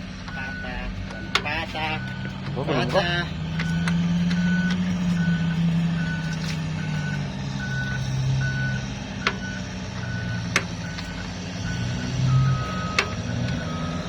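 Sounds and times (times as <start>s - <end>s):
diesel engine hum: 0.0s - 14.0s
reversing alarm beeping: 0.0s - 14.0s.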